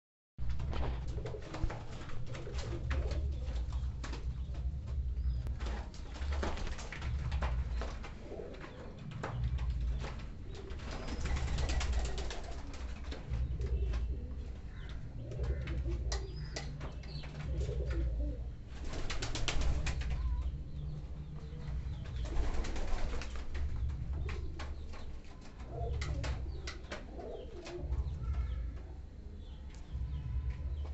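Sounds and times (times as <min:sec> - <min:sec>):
pigeons cooing: 0:00.7 - 0:30.2.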